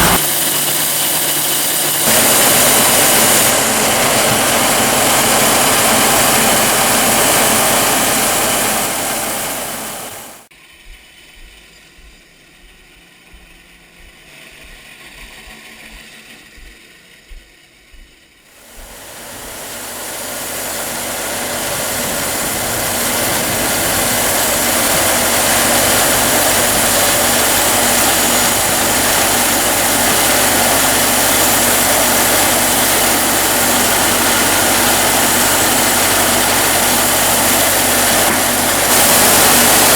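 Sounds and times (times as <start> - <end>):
sawmill engine and saw running: 0.0 - 17.8, 18.5 - 39.9.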